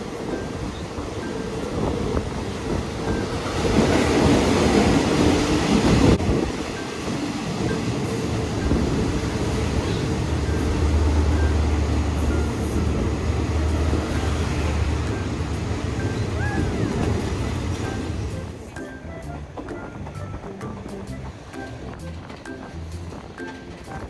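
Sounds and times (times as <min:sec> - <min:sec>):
passenger train rumbling: 0:00.0 - 0:24.0.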